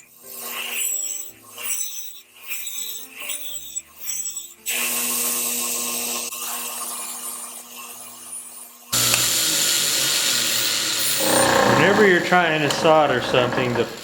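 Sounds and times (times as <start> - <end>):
small power tool on metal: 0.0 - 14.0.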